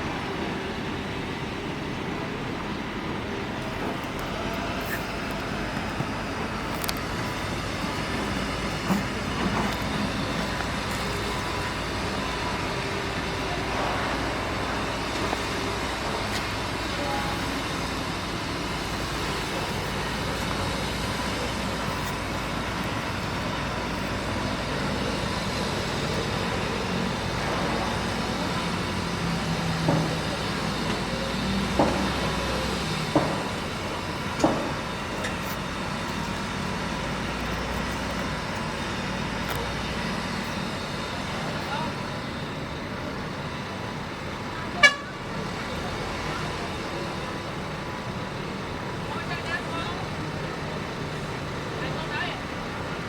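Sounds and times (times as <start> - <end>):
heavy machinery diesel hum: 0.0 - 53.0.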